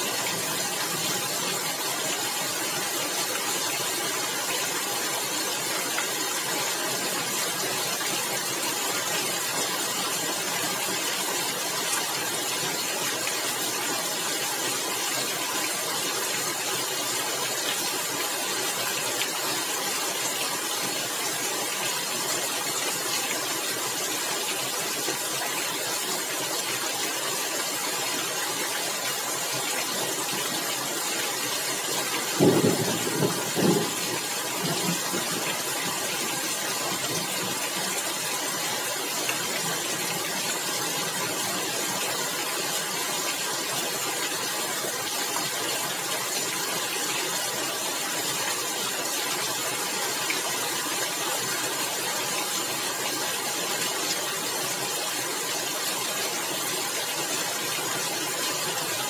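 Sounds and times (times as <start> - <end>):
rain on a tiled roof: 0.0 - 59.0.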